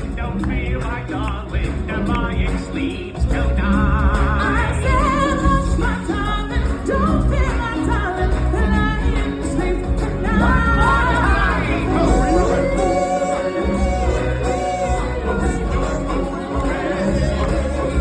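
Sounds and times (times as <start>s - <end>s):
voices singing with vibrato: 0.0s - 18.0s.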